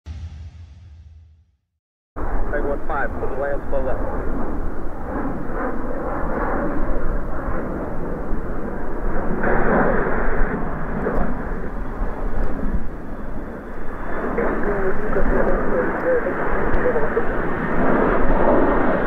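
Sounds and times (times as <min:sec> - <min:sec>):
fighter jet flying over: 0:02.2 - 0:19.0.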